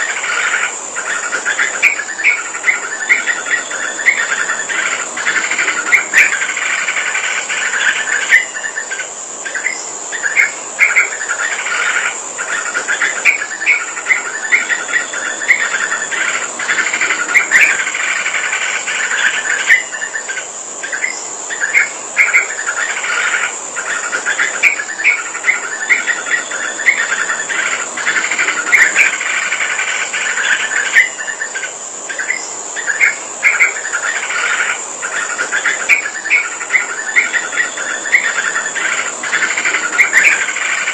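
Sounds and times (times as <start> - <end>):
bird singing: 0.0 - 40.9
insect trill: 0.0 - 40.9.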